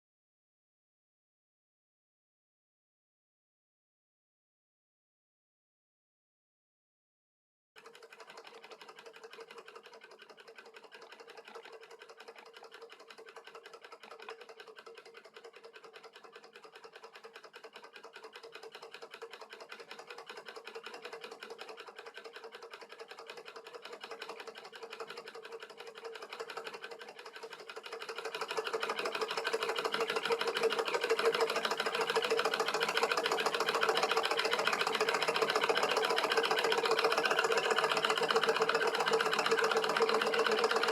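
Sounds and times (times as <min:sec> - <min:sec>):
small engine mechanism clattering: 0:07.8 - 0:40.9.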